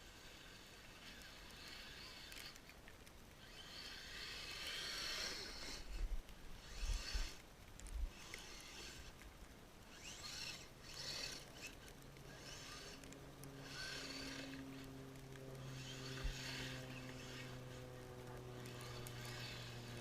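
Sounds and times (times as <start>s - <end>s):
low engine hum: 3.4s - 20.0s.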